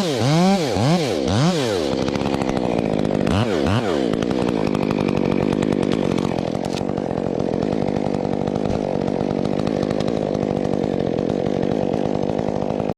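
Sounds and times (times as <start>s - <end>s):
chainsaw running: 0.0s - 12.9s.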